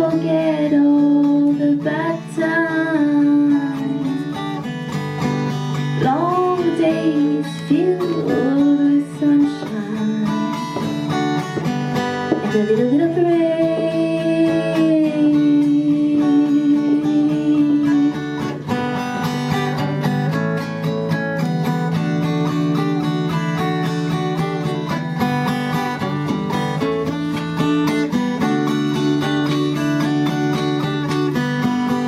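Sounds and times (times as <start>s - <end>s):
guitar strumming chords: 0.0s - 32.0s.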